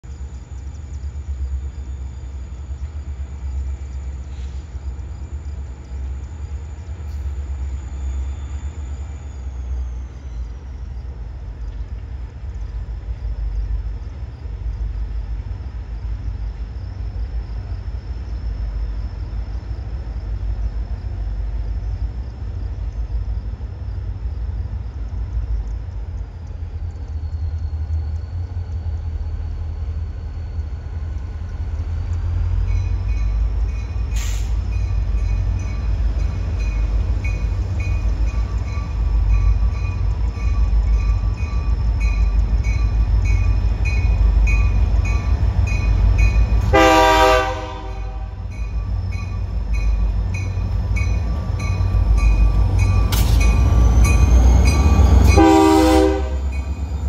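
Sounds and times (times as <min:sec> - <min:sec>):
diesel locomotive engine rumble: 0:00.0 - 0:57.0
faint high whine: 0:00.1 - 0:57.0.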